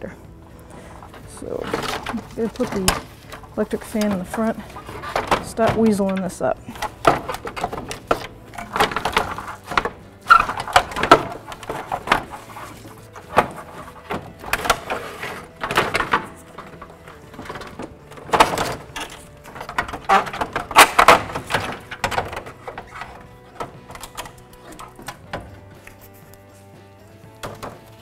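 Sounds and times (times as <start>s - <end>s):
metal parts knocking and scraping: 1.0s - 26.2s.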